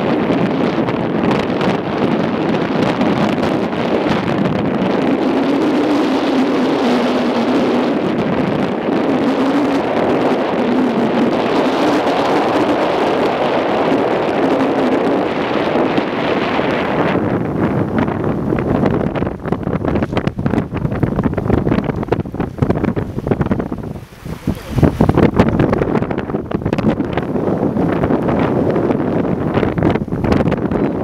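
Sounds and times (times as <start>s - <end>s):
wind buffeting microphone: 0.0s - 31.0s
water flowing among ice: 0.8s - 30.4s.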